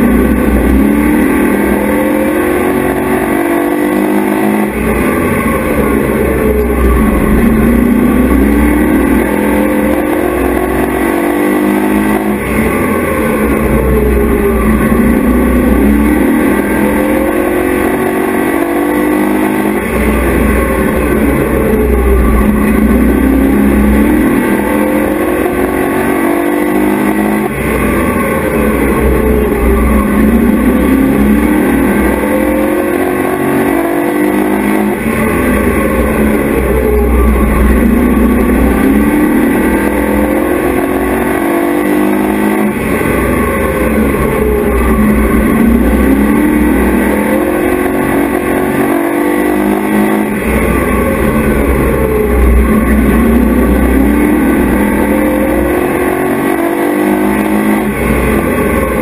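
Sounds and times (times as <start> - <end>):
race truck engine revving: 0.0 - 59.0.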